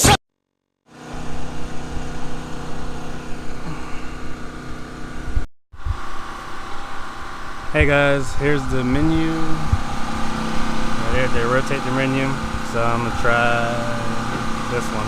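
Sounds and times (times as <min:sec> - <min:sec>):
mechanical hum with low tones: 0:00.9 - 0:15.0.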